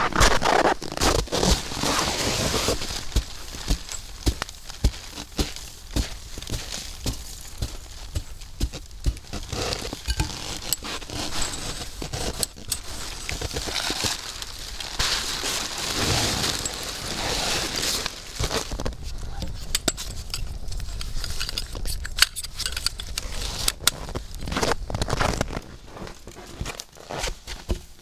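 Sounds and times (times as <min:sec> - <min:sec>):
tent fabric rustling: 0:00.0 - 0:21.5, 0:22.9 - 0:28.0.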